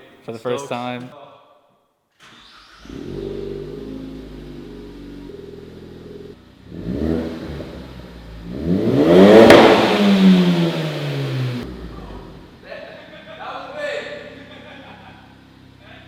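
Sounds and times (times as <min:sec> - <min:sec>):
car engine idling and revving: 0:02.2 - 0:13.5, 0:14.1 - 0:16.0.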